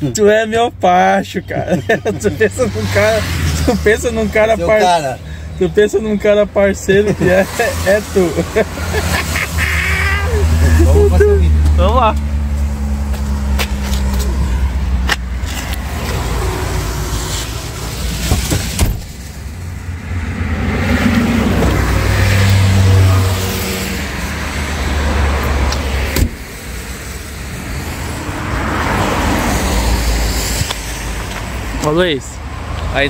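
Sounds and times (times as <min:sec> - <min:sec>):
traffic noise: 0:00.0 - 0:33.0
vehicle engine humming: 0:00.0 - 0:33.0.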